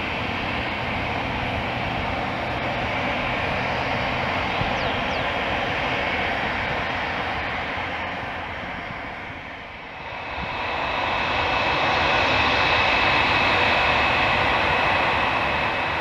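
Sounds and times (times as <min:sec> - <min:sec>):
high-pitched engine whine: 0:00.0 - 0:16.0
turboprop engines at takeoff power: 0:00.0 - 0:16.0.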